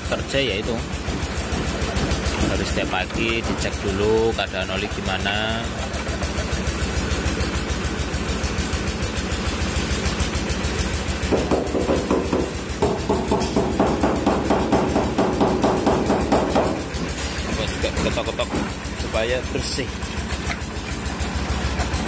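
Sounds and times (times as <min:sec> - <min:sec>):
engine putter: 0:00.0 - 0:22.0.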